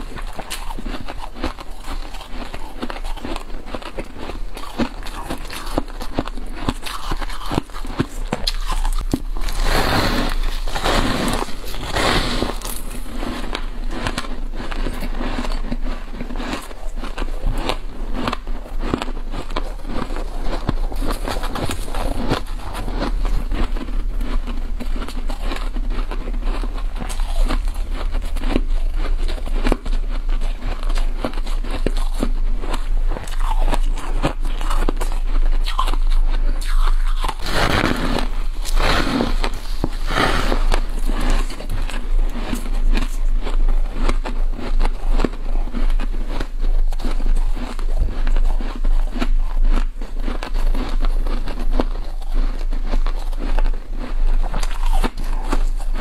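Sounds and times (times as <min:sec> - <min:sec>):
frost crunching and crackling: 0:00.0 - 0:56.0.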